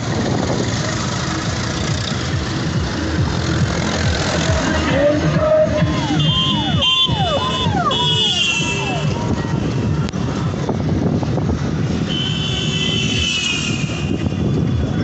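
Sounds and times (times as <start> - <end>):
auto-rickshaw engine running: 0.0 - 15.0.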